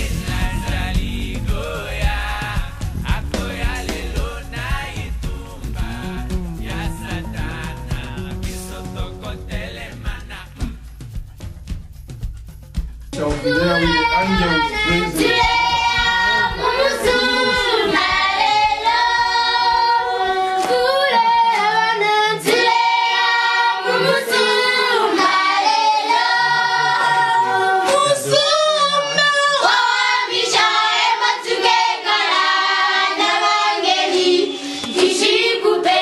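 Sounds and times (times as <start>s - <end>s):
choir singing: 0.0s - 10.8s, 13.2s - 36.0s.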